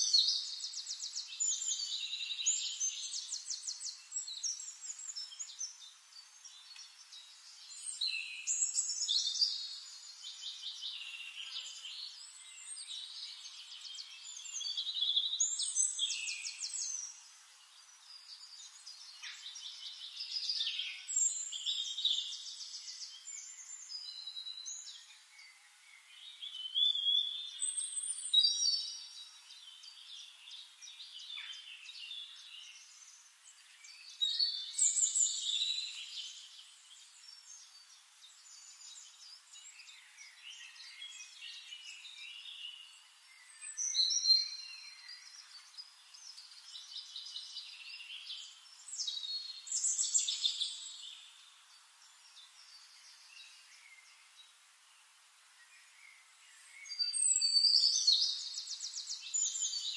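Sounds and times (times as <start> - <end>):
bird song with high reeling trills: 0.0 - 59.9.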